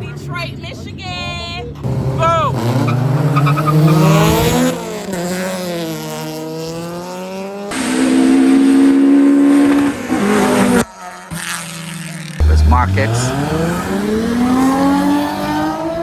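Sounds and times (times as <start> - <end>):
race car engines at high revs: 1.7 - 16.0.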